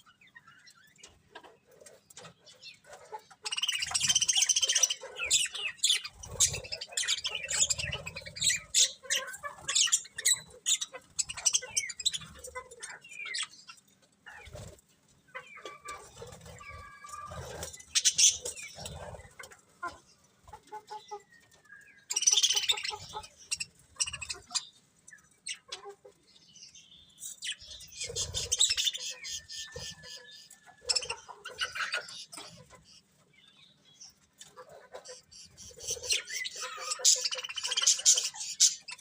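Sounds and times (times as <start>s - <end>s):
budgerigars chirping: 1.8s - 14.6s, 15.4s - 19.4s, 20.8s - 24.8s, 26.7s - 39.0s.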